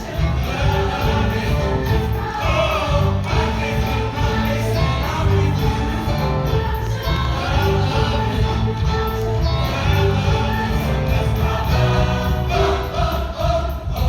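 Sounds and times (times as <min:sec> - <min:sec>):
choir singing pop songs: 0:00.0 - 0:14.0
instrumental backing with heavy beat: 0:00.0 - 0:14.0.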